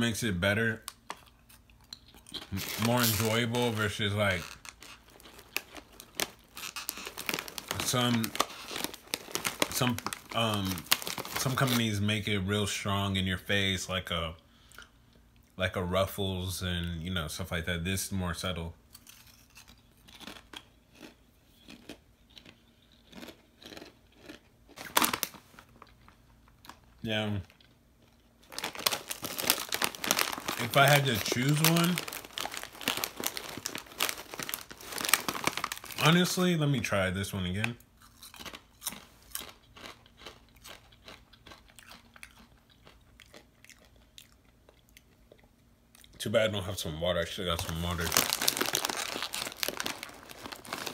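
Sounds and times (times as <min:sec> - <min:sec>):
chip crunching: 0:00.2 - 0:12.0, 0:18.9 - 0:46.2, 0:47.5 - 0:50.9.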